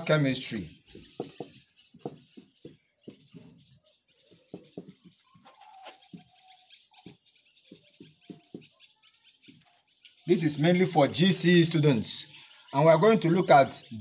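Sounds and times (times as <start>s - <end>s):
marker squeaking on whiteboard: 0.0s - 11.6s.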